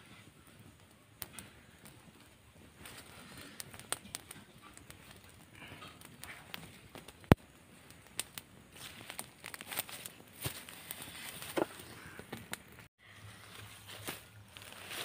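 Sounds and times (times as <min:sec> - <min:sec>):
fire crackling and popping: 0:00.0 - 0:12.9, 0:13.5 - 0:15.0.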